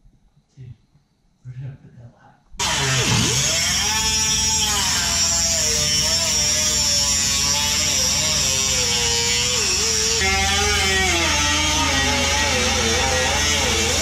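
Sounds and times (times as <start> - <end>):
cut-off wheel grinding metal: 2.6 - 14.0.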